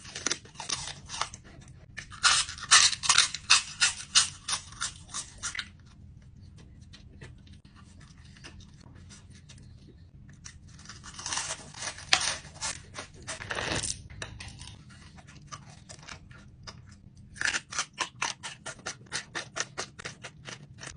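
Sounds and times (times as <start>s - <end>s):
crunchy chewing: 0.0s - 20.9s.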